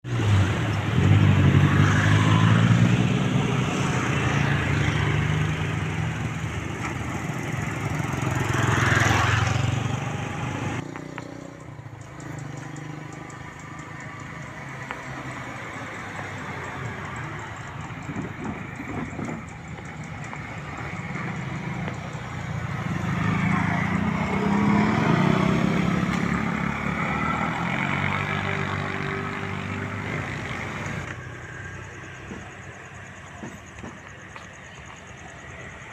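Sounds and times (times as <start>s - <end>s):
distant traffic: 0.0s - 35.9s
vehicle engines running: 0.0s - 35.9s
vehicle passing: 0.0s - 35.9s.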